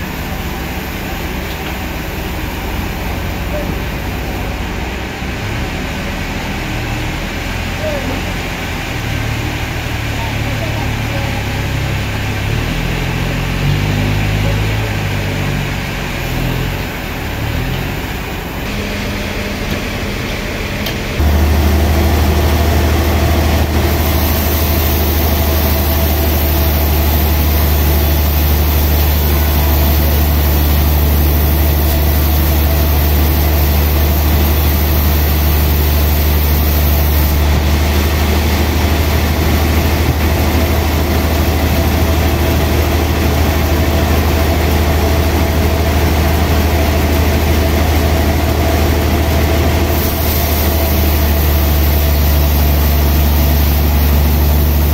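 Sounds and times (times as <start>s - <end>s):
mill machinery rumble: 0.0s - 54.9s
sawmill motor humming: 0.0s - 54.9s.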